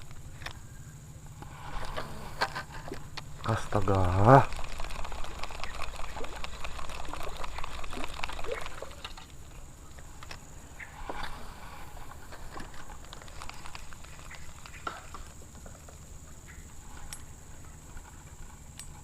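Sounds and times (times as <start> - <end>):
river water splashing: 1.4 - 17.6.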